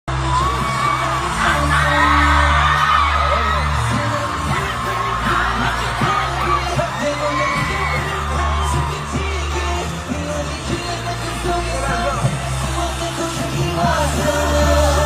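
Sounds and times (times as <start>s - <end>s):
pop song with heavy bass: 0.1s - 15.0s.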